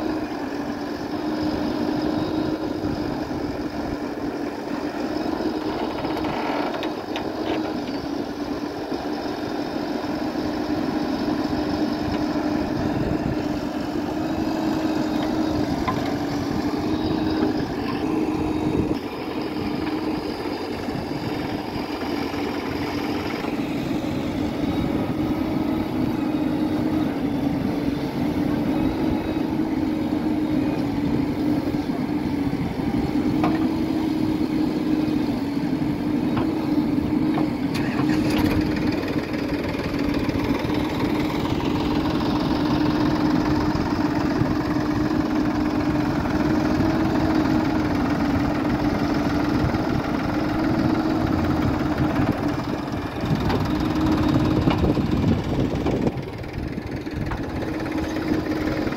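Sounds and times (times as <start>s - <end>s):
backhoe digging mud: 0.0s - 58.9s
diesel engines running: 0.0s - 58.9s.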